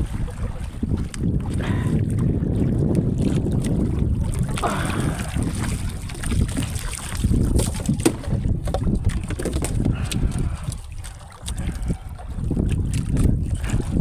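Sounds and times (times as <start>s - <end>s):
water splashing beside boat: 0.0s - 14.0s
wind rumbling on microphone: 0.0s - 14.0s.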